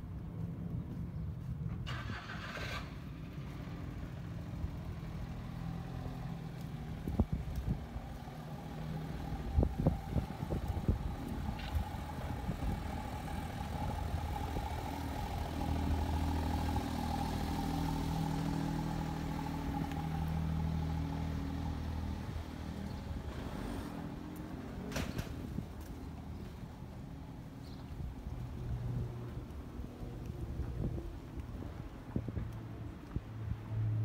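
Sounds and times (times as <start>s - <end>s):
car engine humming: 3.4s - 32.0s.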